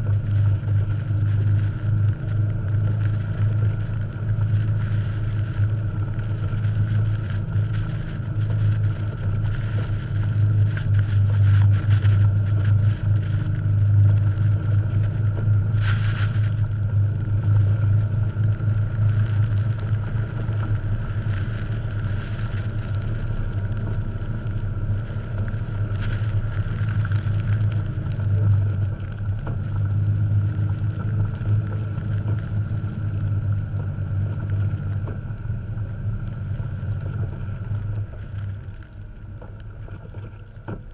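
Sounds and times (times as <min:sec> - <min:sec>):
car engine driving through snow: 0:00.0 - 0:40.9.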